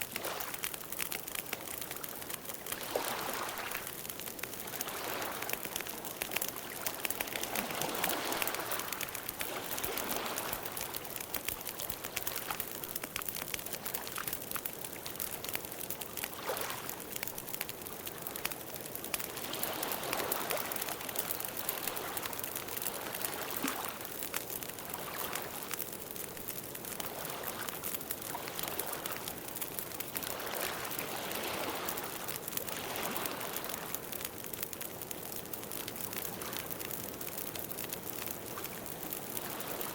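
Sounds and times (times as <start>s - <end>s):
campfire crackles and pops: 0.0s - 39.9s.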